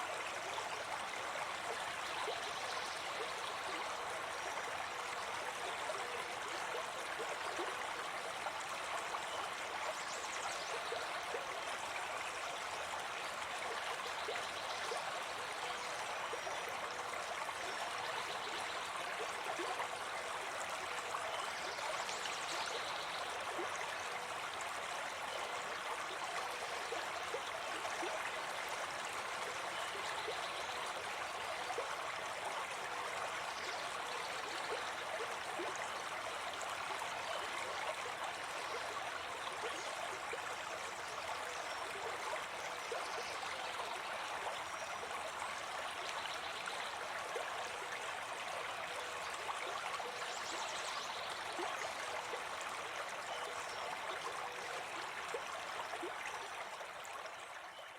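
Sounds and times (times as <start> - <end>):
stream running over rocks: 0.0 - 57.8.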